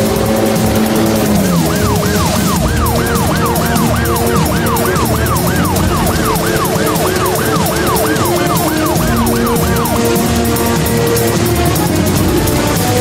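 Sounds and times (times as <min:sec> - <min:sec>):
ambulance siren yelping: 0:00.0 - 0:13.0.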